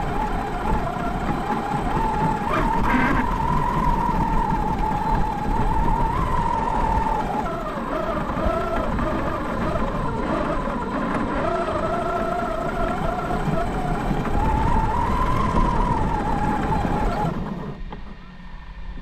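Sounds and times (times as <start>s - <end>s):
toy truck motor whining: 0.0s - 17.8s
tyres rumbling on snow: 0.0s - 18.0s.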